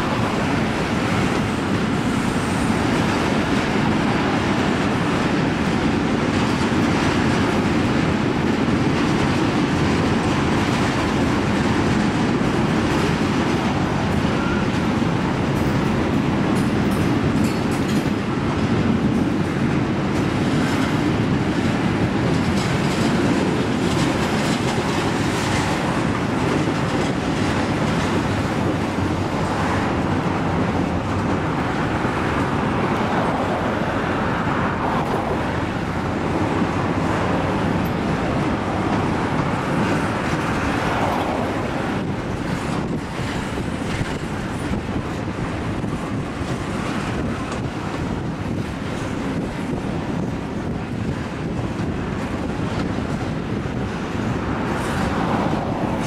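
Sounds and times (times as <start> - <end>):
freight train rumbling: 0.0 - 56.0
wheels clicking over rail joints: 0.0 - 56.0.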